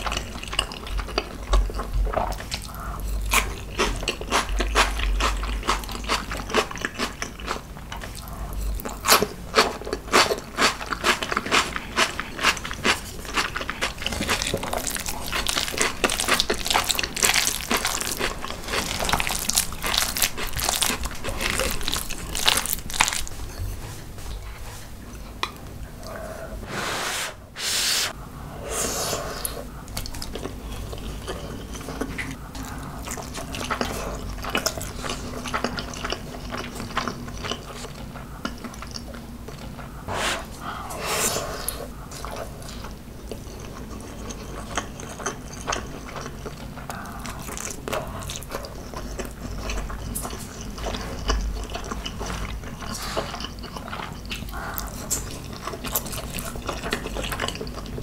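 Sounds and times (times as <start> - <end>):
clicky chewing and mouth noises: 0.0 - 26.4, 29.2 - 58.0.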